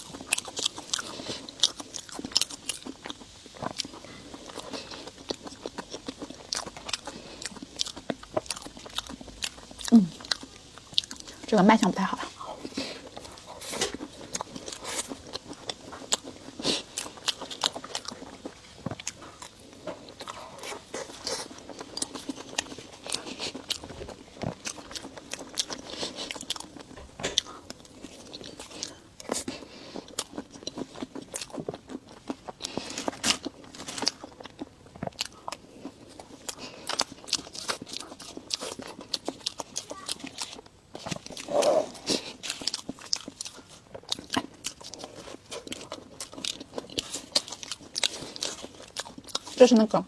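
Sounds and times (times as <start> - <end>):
dessert being bitten and chewed: 0.0 - 50.0.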